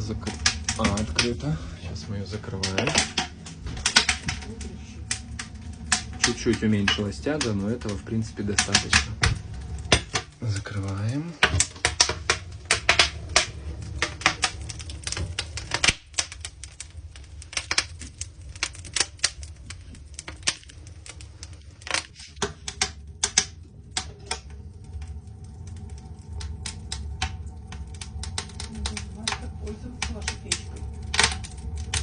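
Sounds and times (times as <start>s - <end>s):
low rumble: 0.0s - 32.0s
wood fire crackling: 0.0s - 32.0s.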